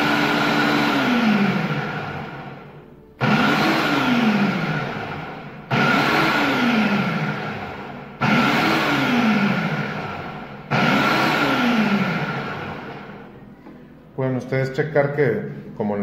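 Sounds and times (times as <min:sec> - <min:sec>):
food processor motor pulsing: 0:00.0 - 0:13.3.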